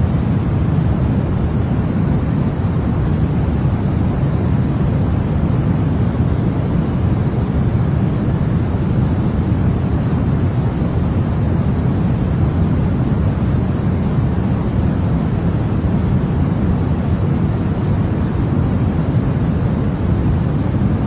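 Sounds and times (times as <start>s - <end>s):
deep white noise: 0.0s - 21.0s.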